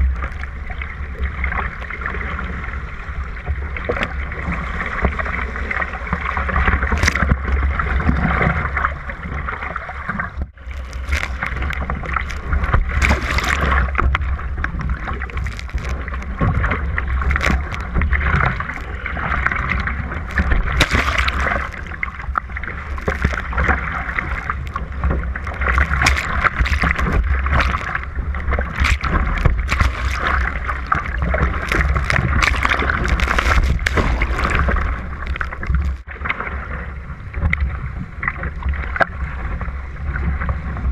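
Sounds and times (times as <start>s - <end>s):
water splashing against boat: 0.0s - 40.9s
paddle strokes splashing: 3.3s - 36.9s.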